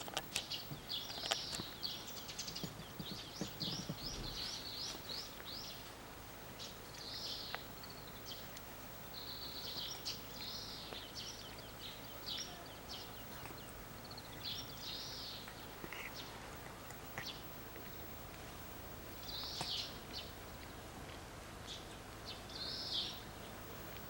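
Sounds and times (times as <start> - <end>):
faint steady hiss: 0.0 - 24.0
small birds chirping: 0.0 - 24.0.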